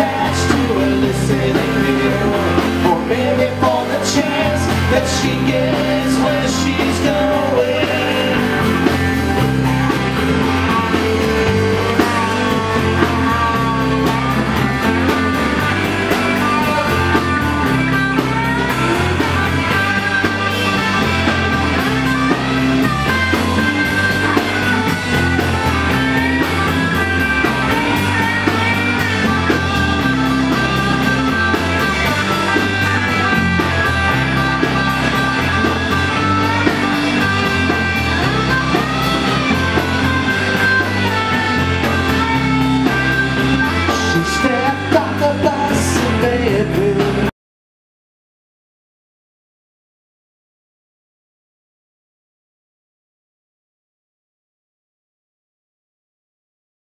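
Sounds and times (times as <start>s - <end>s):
drums: 0.0s - 47.3s
electric guitars: 0.0s - 47.3s
steady low bass line: 0.0s - 47.3s.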